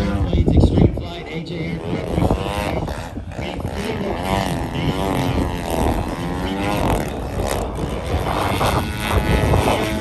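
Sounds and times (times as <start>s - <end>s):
model plane flying past: 0.0s - 10.0s.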